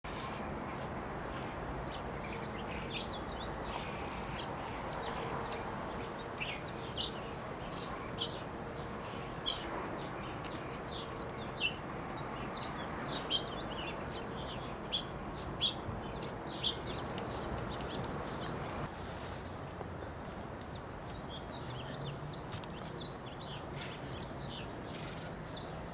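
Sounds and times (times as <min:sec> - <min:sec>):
steady background noise: 0:00.1 - 0:25.9
small birds chirping: 0:00.2 - 0:25.9.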